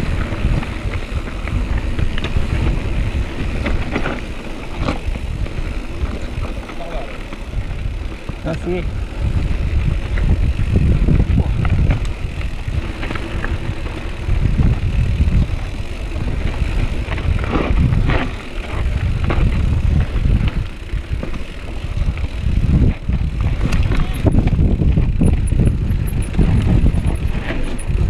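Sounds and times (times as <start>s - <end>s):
bike rattling and knocking: 0.0s - 28.0s
wind and tyre rumble: 0.0s - 28.0s.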